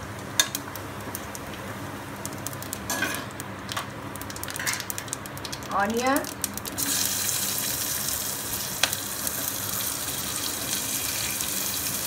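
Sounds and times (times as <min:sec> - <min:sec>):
onions sizzling in oil: 0:00.0 - 0:12.0
spices crackling: 0:00.3 - 0:12.0.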